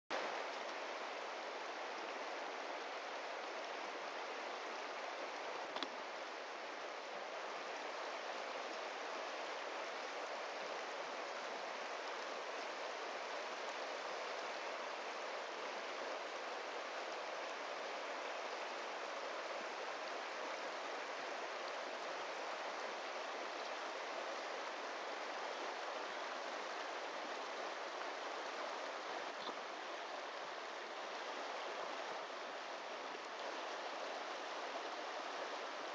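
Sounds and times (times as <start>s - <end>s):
river rushing over cobbles: 0.1s - 35.9s.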